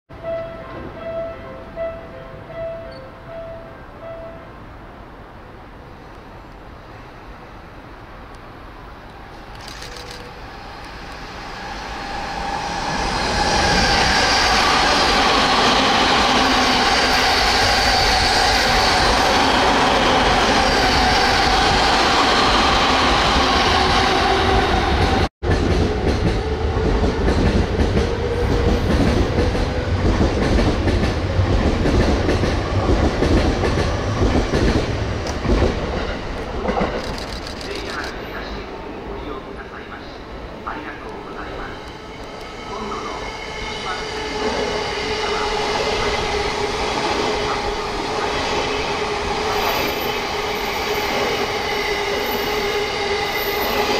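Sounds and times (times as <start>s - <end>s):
another train passing: 0.1s - 53.9s
electric train passing with whine: 0.2s - 53.9s.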